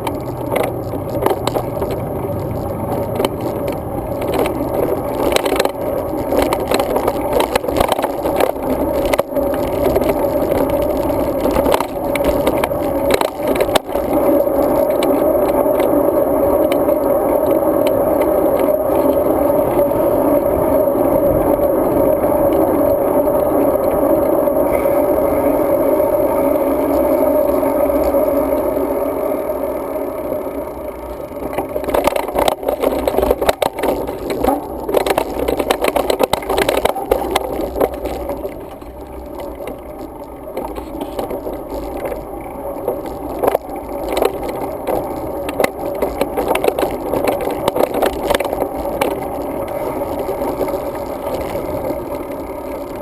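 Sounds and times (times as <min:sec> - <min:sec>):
bike clattering and rattling: 0:00.0 - 0:28.4, 0:30.9 - 0:53.0
bike tyres on pavement: 0:00.0 - 0:53.0.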